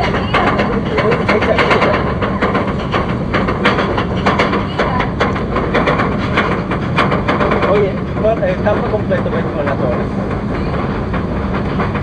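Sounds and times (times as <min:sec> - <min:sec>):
roller coaster clattering on track: 0:00.0 - 0:12.0.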